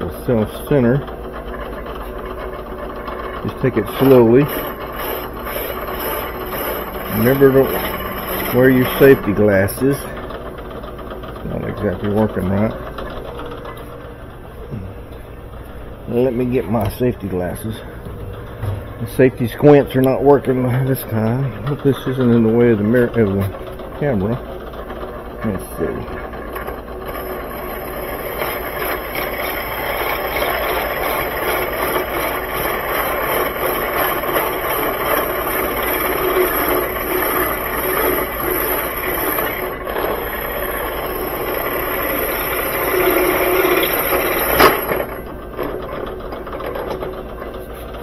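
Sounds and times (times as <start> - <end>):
drill press motor whirring: 0.0 - 48.0
drill bit grinding metal: 0.1 - 15.0, 15.7 - 48.0.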